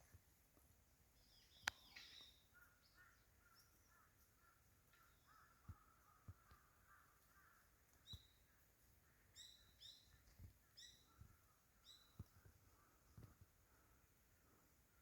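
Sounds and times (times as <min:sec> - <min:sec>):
soft bird chatter: 0:01.1 - 0:15.0
short clipped bird calls: 0:01.2 - 0:13.9.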